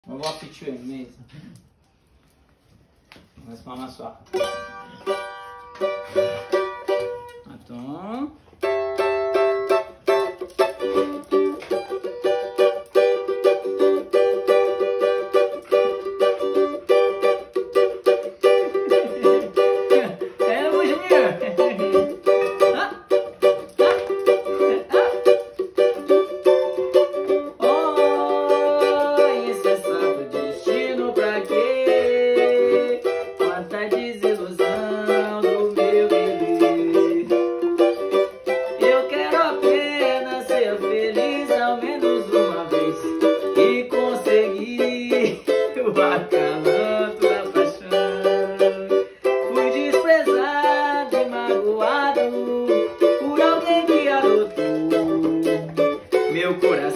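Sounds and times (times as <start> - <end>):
small guitar strummed chords: 4.3 - 7.5, 8.5 - 56.9.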